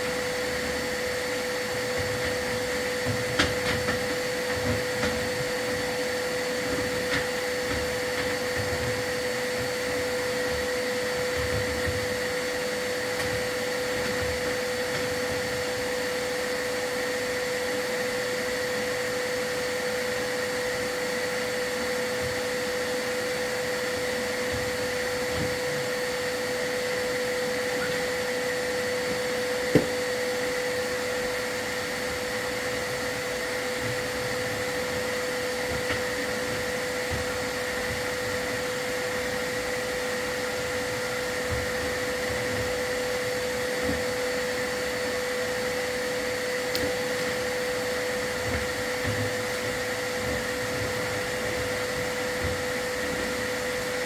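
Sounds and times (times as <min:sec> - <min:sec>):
vacuum motor whine: 0:00.0 - 0:54.0.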